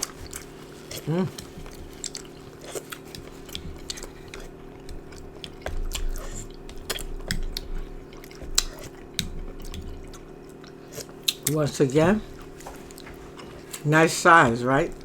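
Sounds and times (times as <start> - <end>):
person chewing food: 0.0 - 13.9
steady low hum: 0.0 - 15.0.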